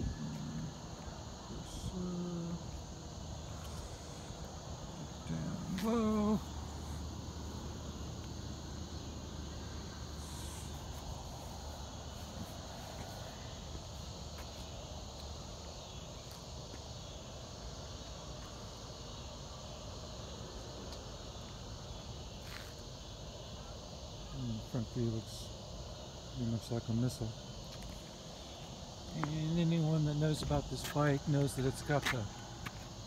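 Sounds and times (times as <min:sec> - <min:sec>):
insects chorus: 0:00.0 - 0:33.0.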